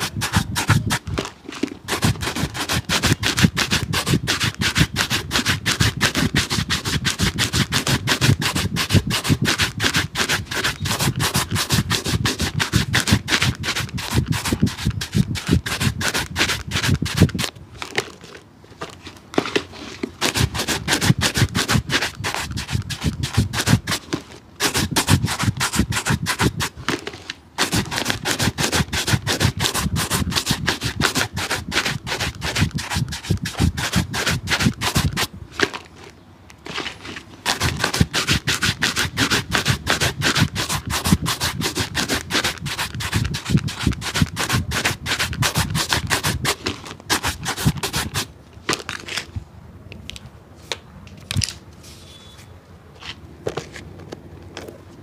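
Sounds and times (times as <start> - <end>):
stiff brush scrubbing a shoe: 0.0 - 17.5, 20.2 - 35.3, 36.7 - 48.3.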